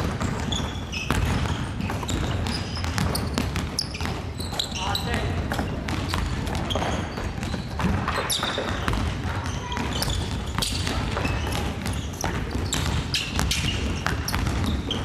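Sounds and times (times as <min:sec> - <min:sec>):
basketballs bouncing on wooden floor: 0:00.0 - 0:15.0
shoes squeaking on floor: 0:00.0 - 0:15.0.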